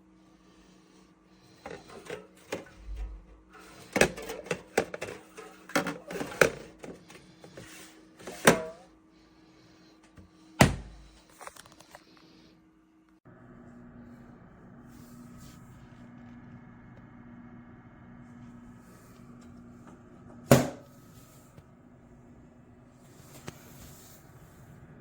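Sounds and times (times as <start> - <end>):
mini fridge fan humming: 0.0 - 25.0.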